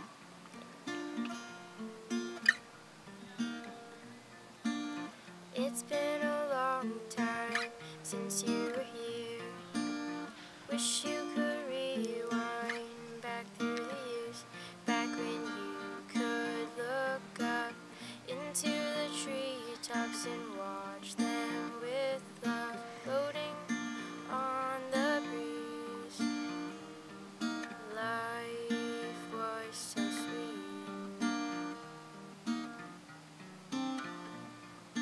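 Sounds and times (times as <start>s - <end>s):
acoustic guitar strumming: 0.0s - 35.0s
sliding guitar melody: 0.0s - 35.0s.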